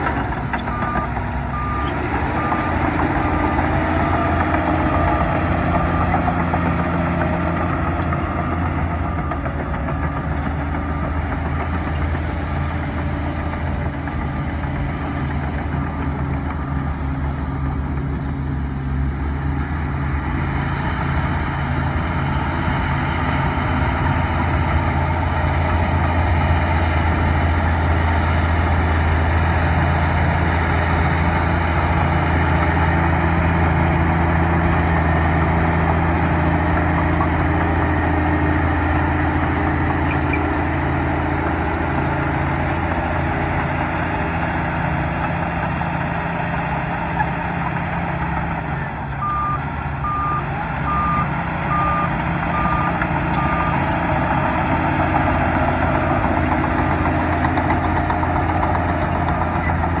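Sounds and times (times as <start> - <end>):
bulldozer diesel engine humming: 0.0 - 60.0.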